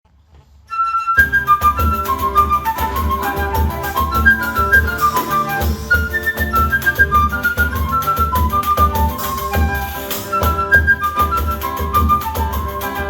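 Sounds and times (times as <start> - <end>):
flute playing quick melody: 0.7 - 13.0
guitar accompaniment: 1.2 - 13.0
hand percussion: 1.2 - 13.0.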